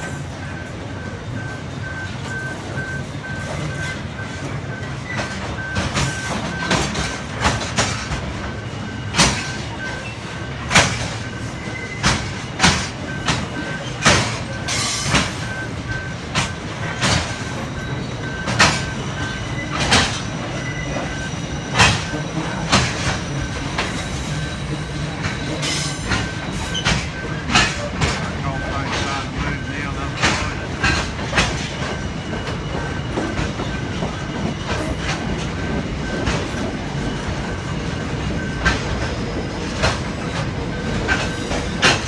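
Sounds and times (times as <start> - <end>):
crossing alarm beeping: 0.0 - 42.0
freight wagons rumbling: 0.0 - 42.0
wheels clacking over rail joints: 0.0 - 42.0.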